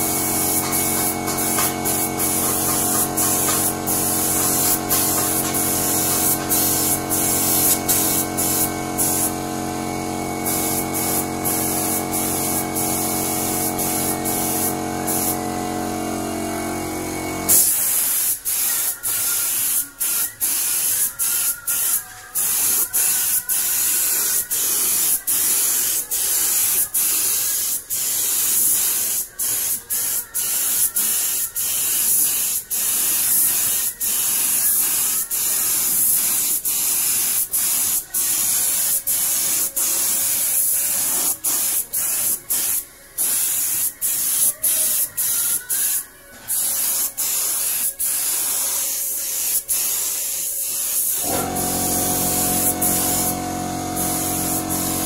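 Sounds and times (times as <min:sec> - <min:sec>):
paint spray gun hissing: 0:00.0 - 0:55.0.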